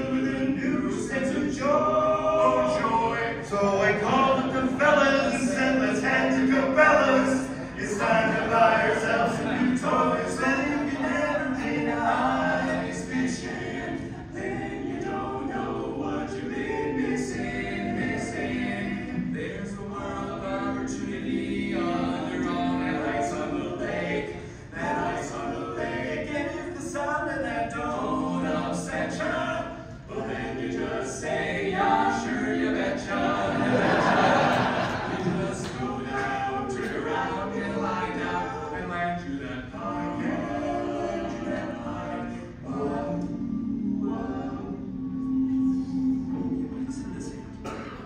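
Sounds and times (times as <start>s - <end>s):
male quartet singing a cappella: 0.0s - 48.0s.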